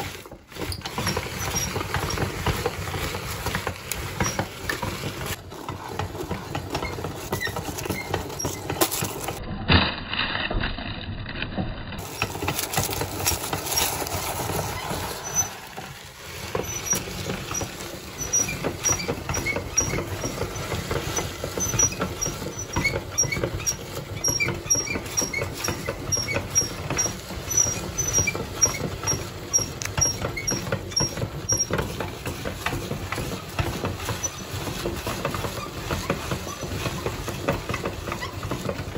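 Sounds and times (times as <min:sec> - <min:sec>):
meat grinder crunching popcorn cakes: 0:00.0 - 0:09.4, 0:12.0 - 0:38.9.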